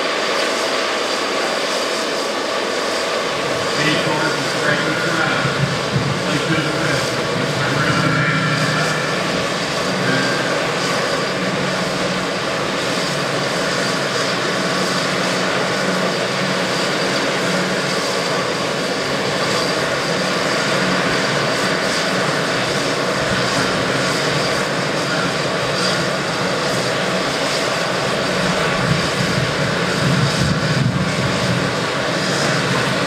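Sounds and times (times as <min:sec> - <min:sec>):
helicopter turbine and rotor: 0:00.0 - 0:33.0.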